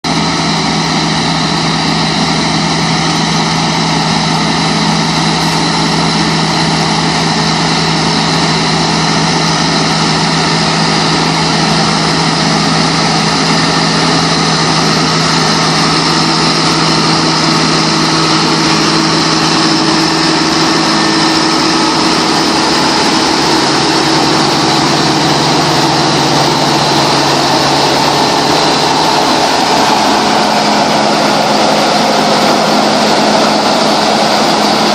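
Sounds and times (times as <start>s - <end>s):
harvester engine drone: 0.0s - 34.9s
high machinery whine: 0.0s - 34.9s.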